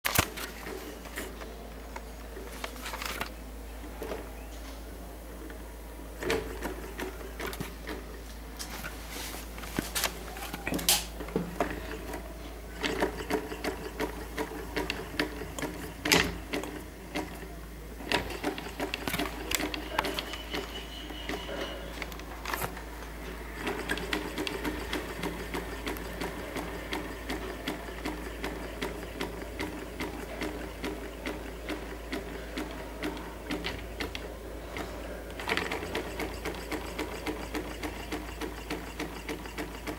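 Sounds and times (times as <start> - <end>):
small engine mechanical clatter: 6.2 - 8.2, 9.7 - 39.9.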